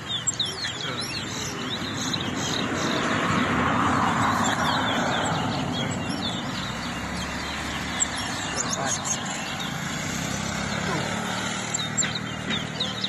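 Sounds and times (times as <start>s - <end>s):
finches chirping: 0.0s - 13.0s
passing vehicle: 0.0s - 13.0s.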